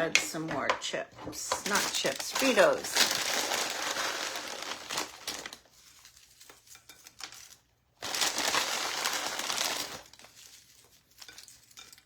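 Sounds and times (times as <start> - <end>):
chip bag crinkling: 1.5 - 12.0.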